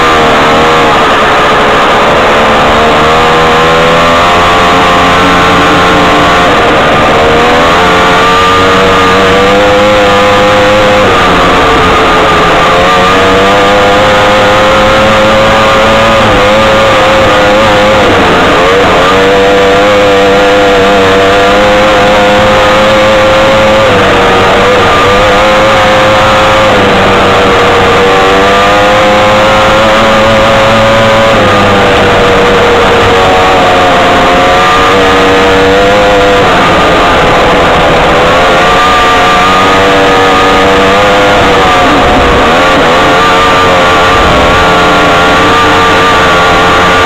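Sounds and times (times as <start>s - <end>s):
buggy engine revving high: 0.0s - 47.0s.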